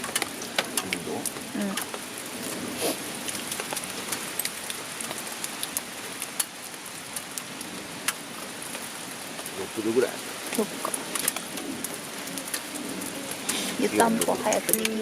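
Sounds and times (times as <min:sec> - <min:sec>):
rain falling on a tarp: 0:00.0 - 0:15.0.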